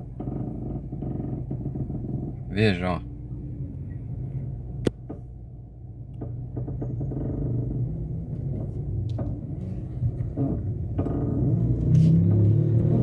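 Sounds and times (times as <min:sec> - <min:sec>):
suspension knocking and creaking: 0:00.0 - 0:13.0.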